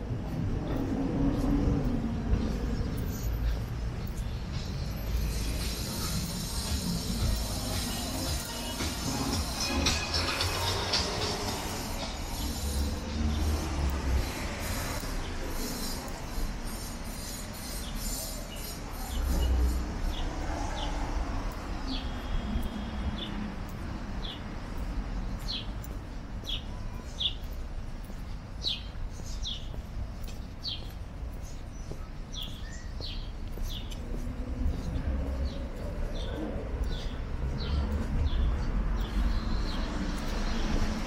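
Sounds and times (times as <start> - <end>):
city traffic hiss: 0.0 - 41.0
small birds chirping: 0.6 - 41.0.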